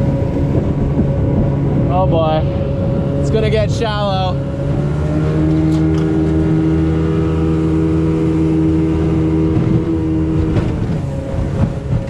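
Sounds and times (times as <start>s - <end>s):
jet boat engine running: 0.0s - 12.0s.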